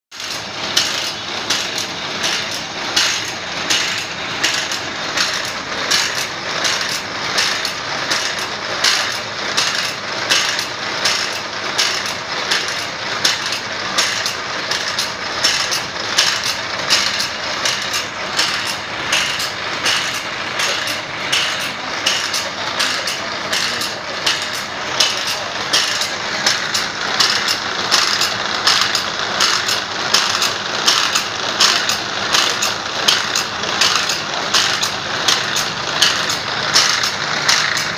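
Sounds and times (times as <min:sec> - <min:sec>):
grinding wheel rasping: 0:00.1 - 0:37.9.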